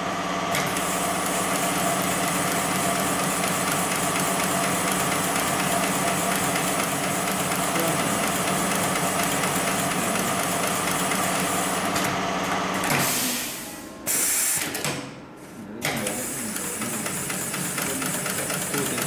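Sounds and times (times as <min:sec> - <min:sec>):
sewing machine whirring: 0:00.4 - 0:13.5, 0:16.0 - 0:19.0.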